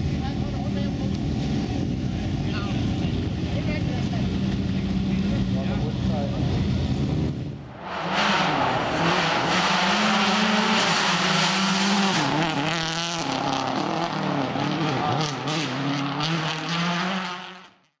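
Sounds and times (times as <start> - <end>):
rally car engine at full throttle: 0.0 - 17.9.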